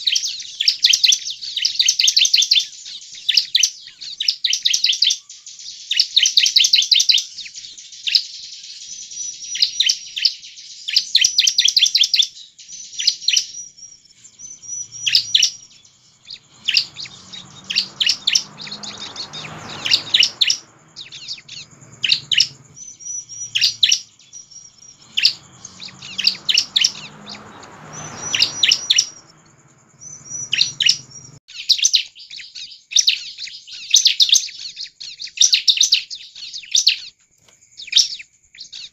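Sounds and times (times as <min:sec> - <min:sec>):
bird chirping high-pitched: 0:00.0 - 0:37.1.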